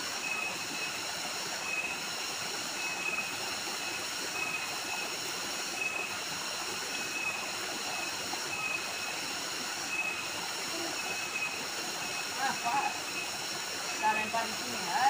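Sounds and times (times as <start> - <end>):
high-pitched insect tones: 0.0 - 15.0.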